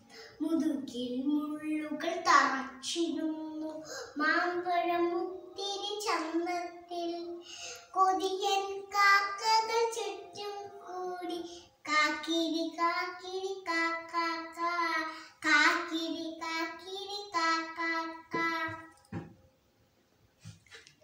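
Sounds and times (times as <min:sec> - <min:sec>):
boy singing: 0:00.4 - 0:18.9.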